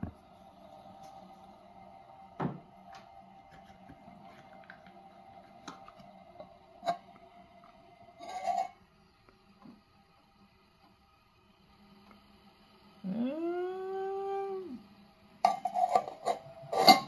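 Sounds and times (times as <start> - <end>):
stove faint hum: 0.0 - 17.0.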